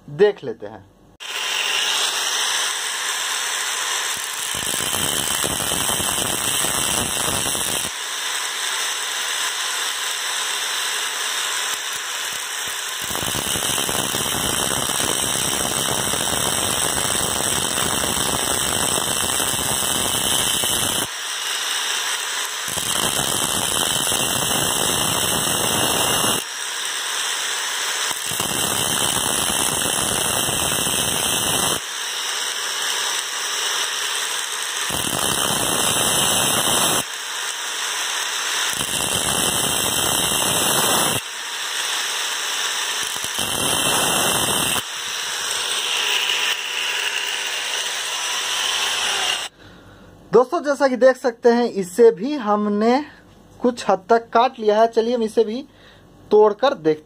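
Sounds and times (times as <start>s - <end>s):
grinder cutting metal: 1.2s - 49.6s.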